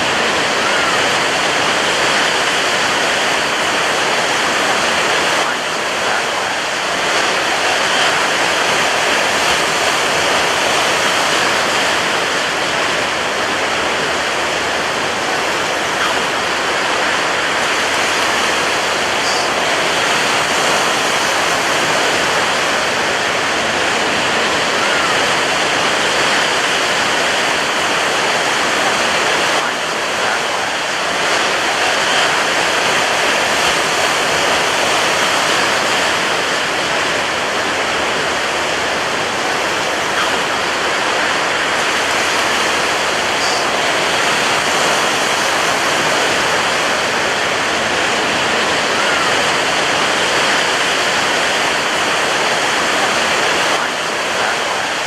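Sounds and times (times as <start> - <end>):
waves breaking on a beach: 0.0 - 55.0.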